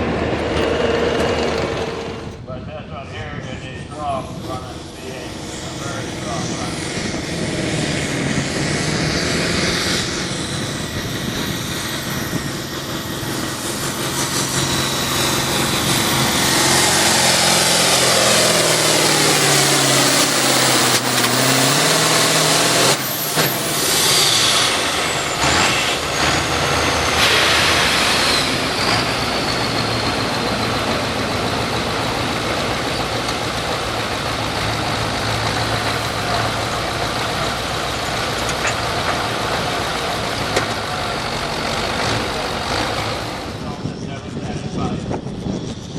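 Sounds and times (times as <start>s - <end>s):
engine running hard under load: 0.0s - 45.9s
high whine: 0.0s - 45.9s.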